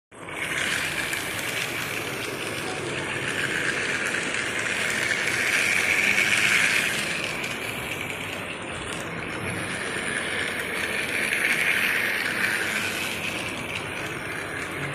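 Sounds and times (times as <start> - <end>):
plastic wheels rattling on track: 0.2 - 14.9
toy train motor whirring: 0.2 - 14.9.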